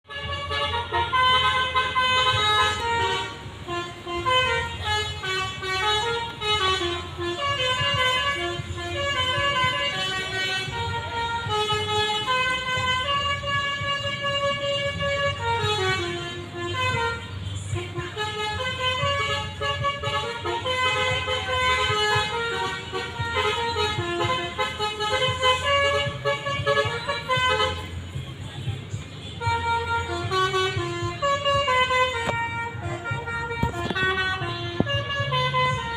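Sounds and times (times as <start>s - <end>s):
multi-tone bus air horns: 0.0s - 35.9s.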